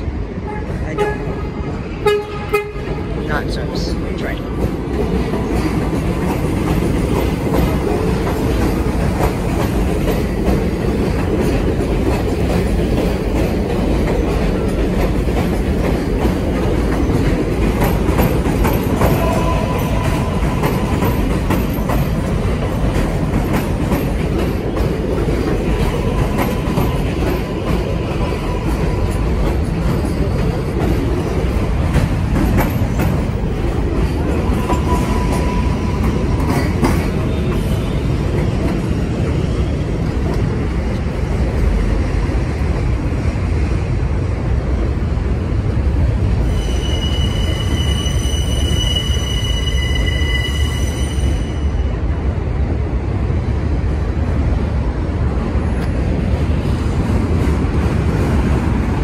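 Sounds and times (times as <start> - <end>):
subway train rumbling past: 0.0 - 59.0.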